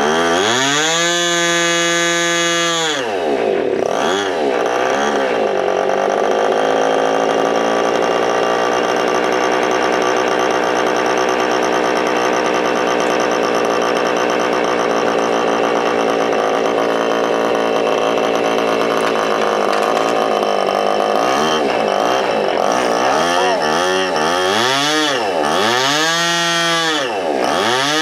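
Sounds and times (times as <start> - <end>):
model airplane engine whining: 0.0 - 28.0.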